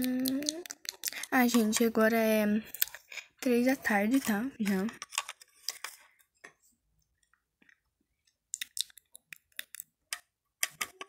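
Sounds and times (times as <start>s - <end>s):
clicks and taps of small objects: 0.0s - 2.0s, 2.7s - 6.6s, 7.2s - 11.0s.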